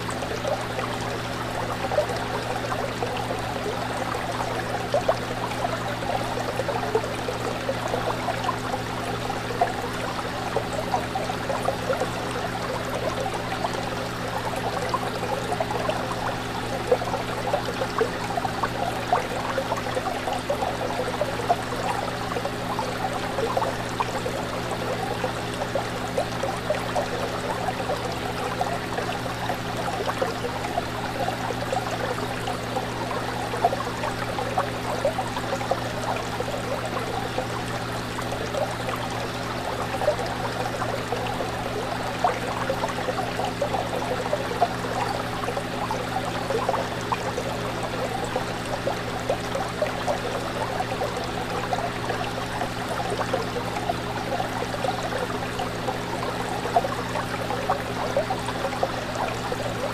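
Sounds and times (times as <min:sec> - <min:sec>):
aquarium water bubbling: 0:00.0 - 0:59.9.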